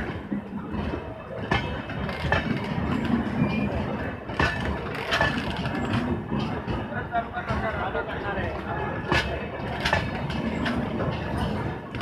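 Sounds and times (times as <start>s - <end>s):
train coaches rumbling: 0.0s - 12.0s
wheels clicking over rail joints: 0.0s - 12.0s.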